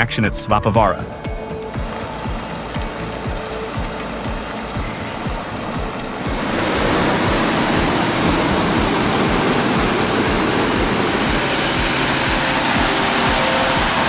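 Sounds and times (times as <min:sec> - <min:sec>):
low thumping: 0:00.0 - 0:14.0
loud rushing noise: 0:01.1 - 0:14.0.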